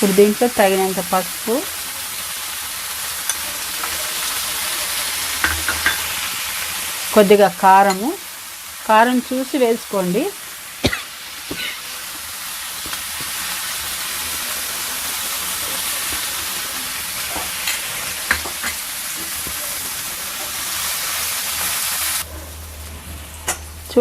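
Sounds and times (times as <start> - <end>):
beans sizzling in hot oil: 0.0 - 24.0.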